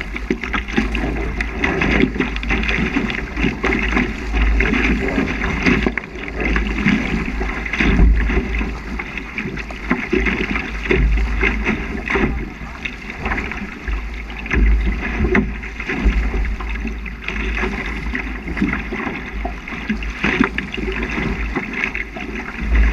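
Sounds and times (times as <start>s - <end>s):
water rushing along boat hull: 0.0s - 22.9s
wind buffeting microphone: 0.0s - 22.9s.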